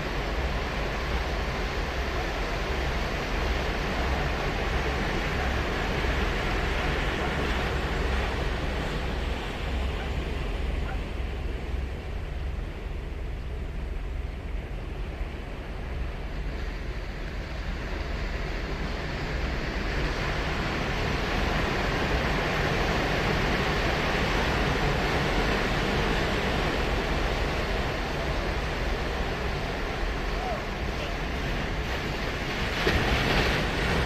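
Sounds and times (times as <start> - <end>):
ocean waves breaking on beach: 0.0 - 34.0
wind rumble on microphone: 0.0 - 34.0.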